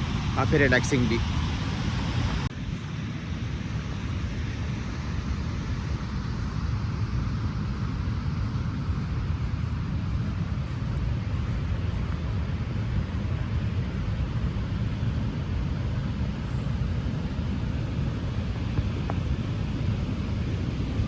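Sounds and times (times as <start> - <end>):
waterfall rushing with deep rumble: 0.0 - 21.0.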